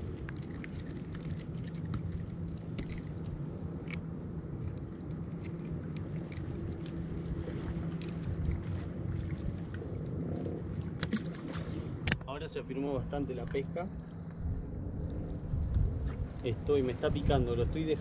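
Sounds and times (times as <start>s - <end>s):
low engine drone: 0.0s - 18.0s.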